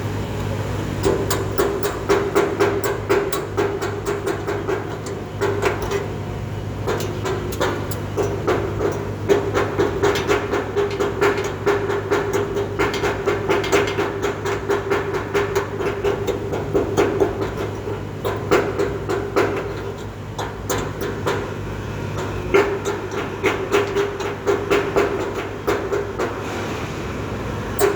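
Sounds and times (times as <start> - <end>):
steady hum: 0.0 - 27.9.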